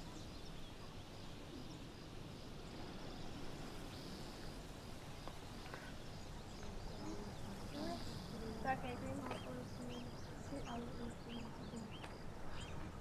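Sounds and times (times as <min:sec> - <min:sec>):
low background hiss: 0:00.0 - 0:13.0.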